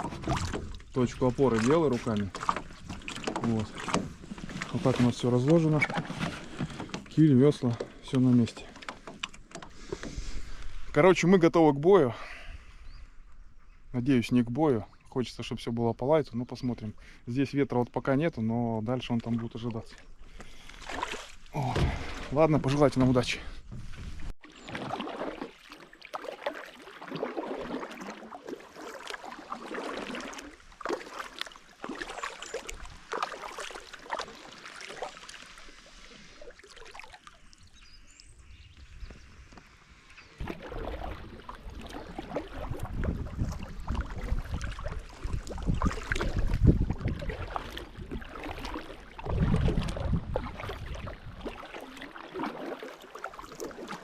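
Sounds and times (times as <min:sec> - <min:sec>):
paddles splashing in water: 0:00.0 - 0:11.3, 0:18.9 - 0:54.0.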